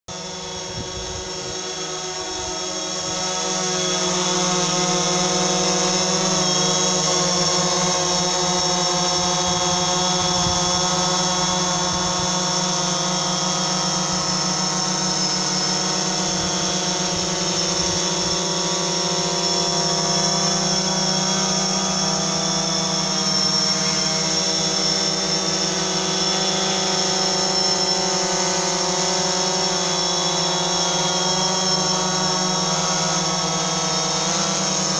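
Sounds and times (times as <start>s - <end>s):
drone motors buzzing: 0.1s - 34.9s.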